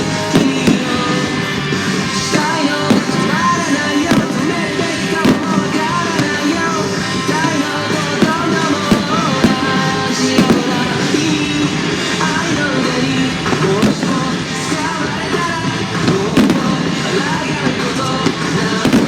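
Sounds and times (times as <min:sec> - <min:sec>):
firework bangs: 0:00.0 - 0:19.0
song with singing: 0:00.0 - 0:19.0.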